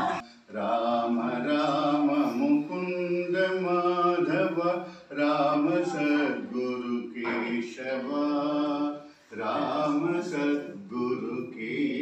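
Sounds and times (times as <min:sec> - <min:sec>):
man chanting a hymn: 0:00.0 - 0:12.0.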